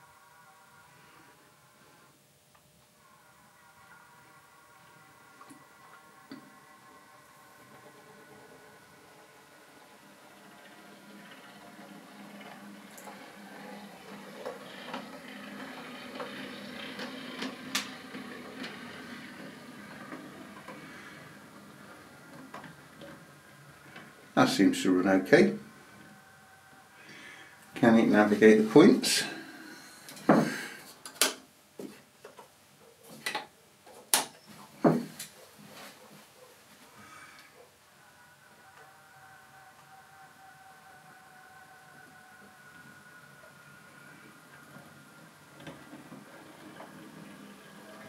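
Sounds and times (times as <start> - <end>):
model train motor hum: 3.0 - 31.0, 37.0 - 48.0.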